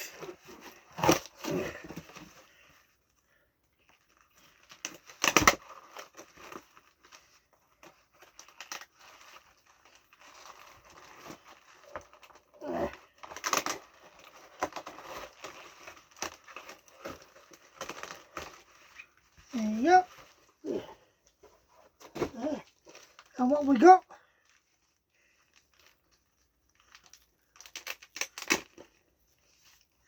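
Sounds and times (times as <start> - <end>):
packaging tearing and crinkling: 0.0 - 2.4, 3.8 - 20.5, 24.8 - 29.8.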